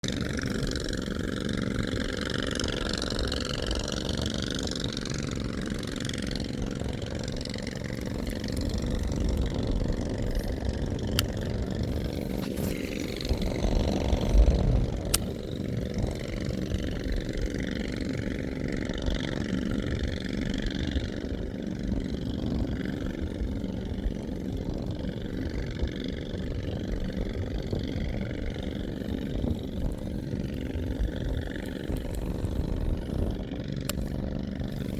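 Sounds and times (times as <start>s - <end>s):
small boat engine running: 0.0s - 34.9s.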